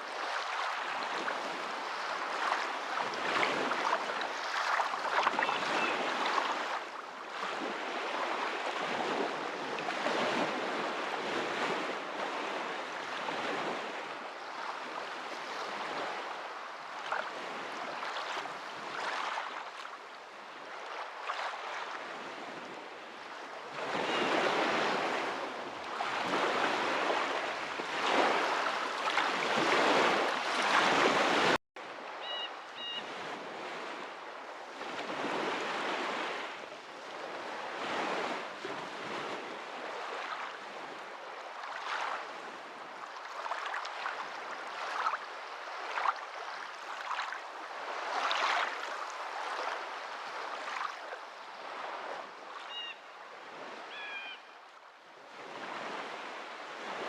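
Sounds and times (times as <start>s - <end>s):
water rushing like small waves: 0.0s - 57.0s.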